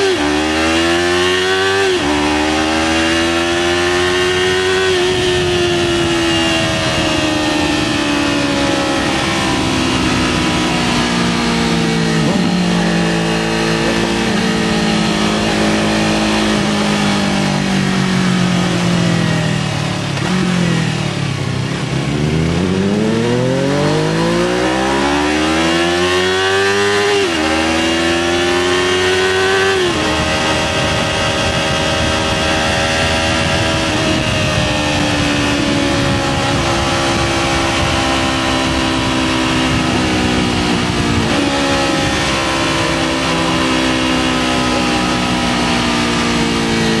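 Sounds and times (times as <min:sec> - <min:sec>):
motorcycle engine accelerating: 0:00.0 - 0:47.0
wind noise: 0:00.0 - 0:47.0.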